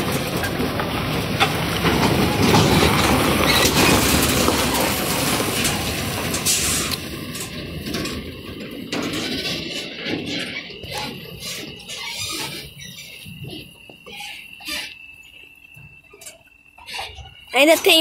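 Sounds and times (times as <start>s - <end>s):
trailer rattling: 0.0s - 18.0s
tyres crunching on dirt: 0.0s - 18.0s.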